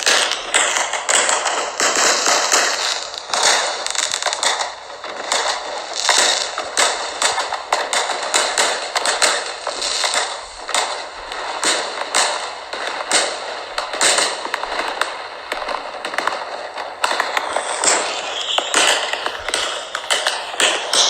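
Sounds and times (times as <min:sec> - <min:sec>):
firework bangs: 0:00.0 - 0:21.0
firework crackling: 0:00.0 - 0:21.0.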